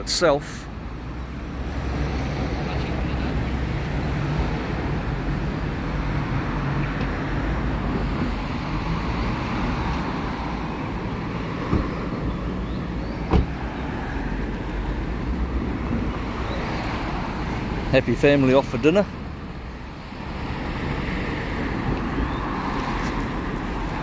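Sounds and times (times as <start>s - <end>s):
car and bus engines running: 0.0s - 24.0s
tyres on the road: 0.0s - 24.0s.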